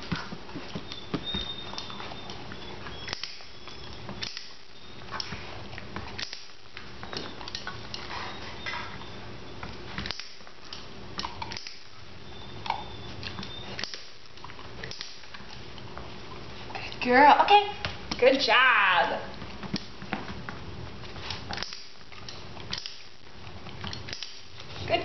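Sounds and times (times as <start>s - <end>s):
puppy claws clicking on floor: 0.0s - 12.0s, 12.6s - 17.0s, 19.3s - 24.8s.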